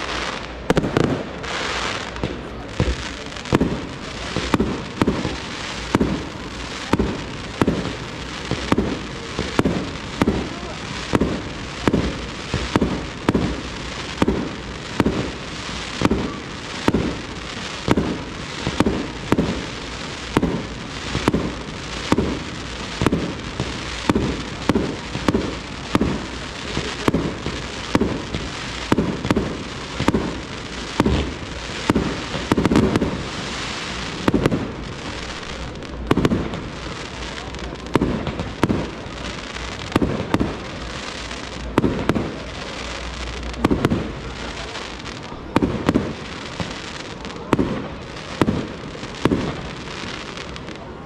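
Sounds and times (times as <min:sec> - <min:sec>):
fireworks bangs and crackle: 0:00.0 - 0:51.0
fireworks hiss and crackle: 0:00.0 - 0:51.0.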